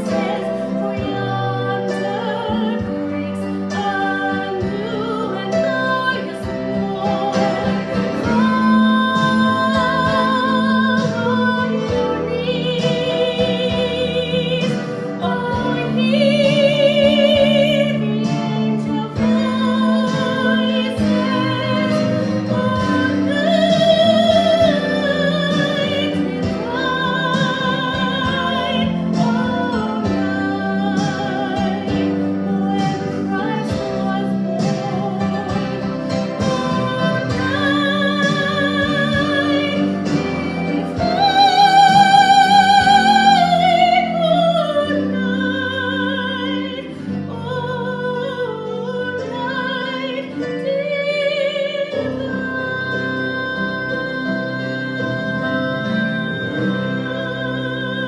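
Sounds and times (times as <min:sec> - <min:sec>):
instrumental accompaniment: 0:00.0 - 0:58.0
woman singing with vibrato: 0:00.0 - 0:58.0.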